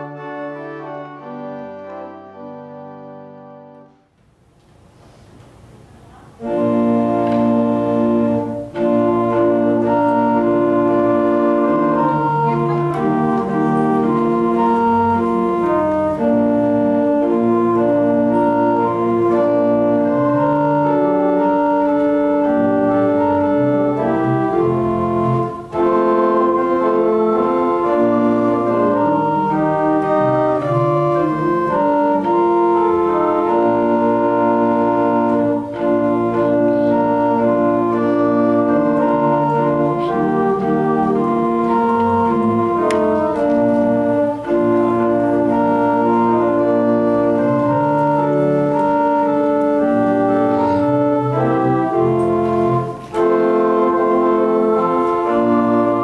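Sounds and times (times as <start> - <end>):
organ playing sustained chords: 0.0 - 4.1, 5.6 - 56.0.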